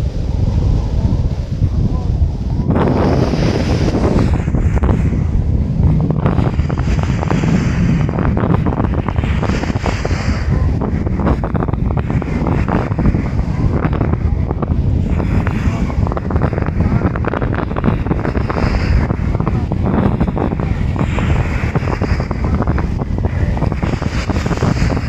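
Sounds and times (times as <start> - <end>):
sea waves breaking: 0.0 - 25.0
wind buffeting microphone: 0.0 - 25.0.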